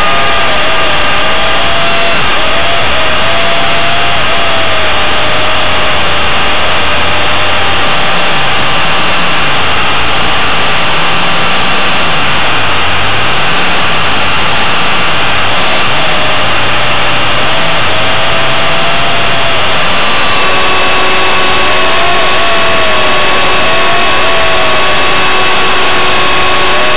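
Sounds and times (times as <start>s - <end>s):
low hum varying in pitch: 0.0s - 26.9s
toy helicopter motor whine: 0.0s - 26.9s.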